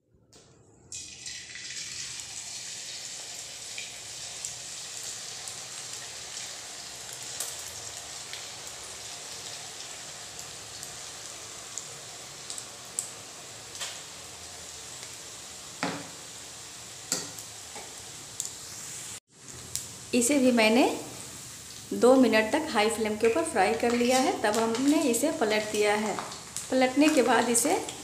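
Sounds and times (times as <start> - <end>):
dough sizzling in hot oil: 0.9 - 28.0.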